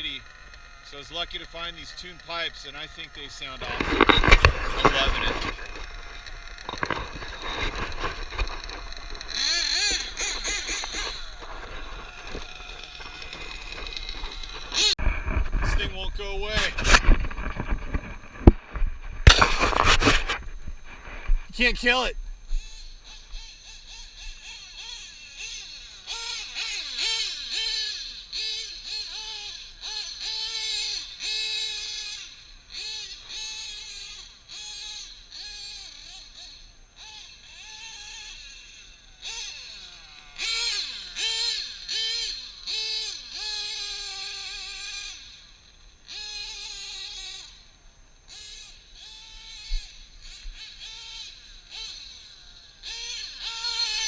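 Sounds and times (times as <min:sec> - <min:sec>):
nitro engine wailing at high revs: 0:00.0 - 0:54.0.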